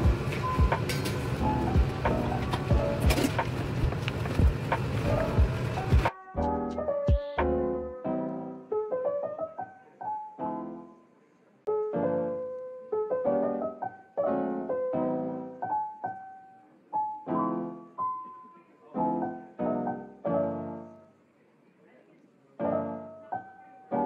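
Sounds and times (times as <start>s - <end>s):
soft piano tune: 0.0s - 24.0s.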